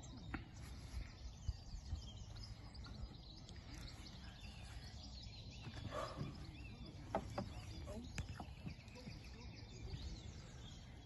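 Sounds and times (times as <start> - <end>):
small birds chirping: 0.0 - 11.0
soft low thumps: 0.3 - 10.3.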